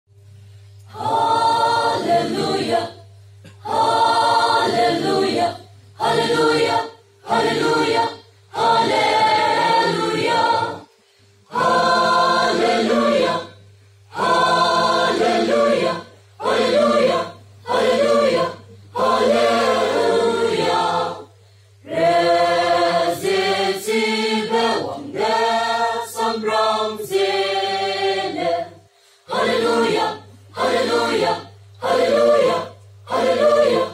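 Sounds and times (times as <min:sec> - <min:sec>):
low steady hum: 0:00.1 - 0:33.9
mixed choir singing a cappella: 0:00.9 - 0:10.9, 0:11.5 - 0:33.9.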